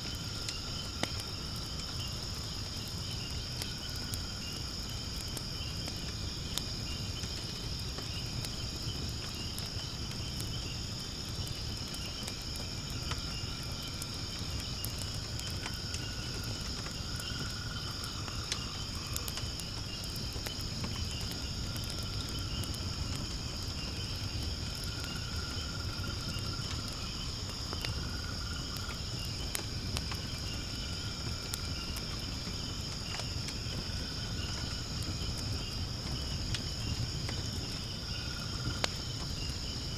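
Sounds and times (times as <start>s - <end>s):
insect chorus: 0.0s - 39.9s
wood fire crackling and popping: 0.0s - 39.9s.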